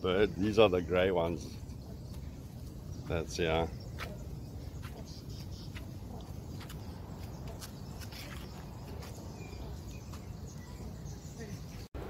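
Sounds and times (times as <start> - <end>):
bird chirps: 0.0 - 11.9.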